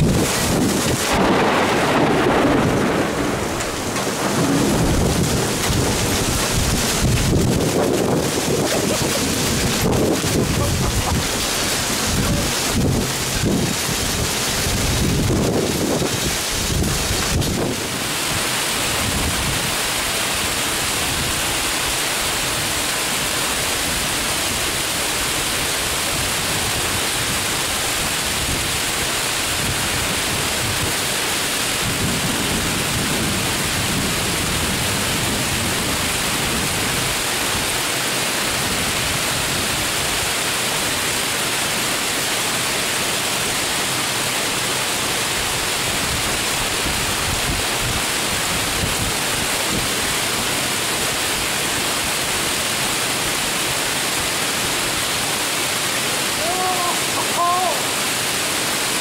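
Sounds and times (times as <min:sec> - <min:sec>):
torrential rain pouring: 0:00.0 - 0:59.0.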